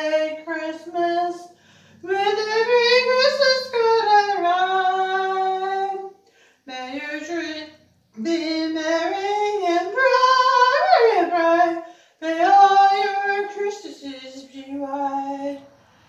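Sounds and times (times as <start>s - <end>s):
person singing unaccompanied: 0.0s - 15.8s.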